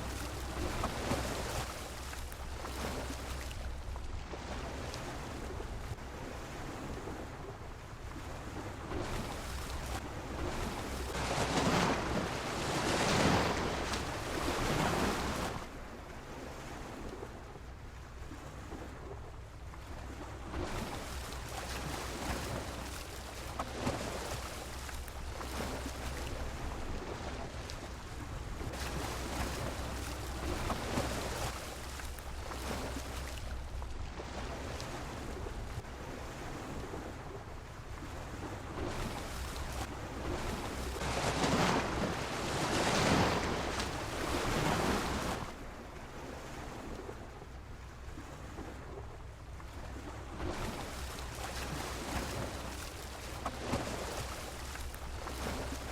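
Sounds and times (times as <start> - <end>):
waves washing against a pier: 0.0 - 55.9.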